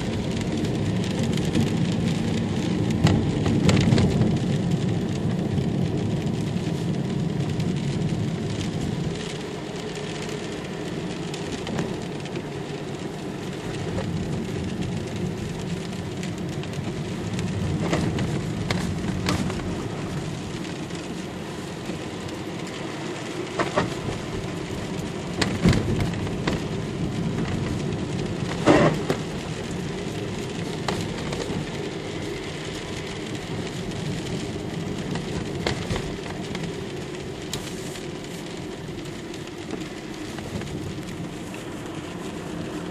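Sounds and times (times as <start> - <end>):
car road noise inside cabin: 0.0 - 42.9.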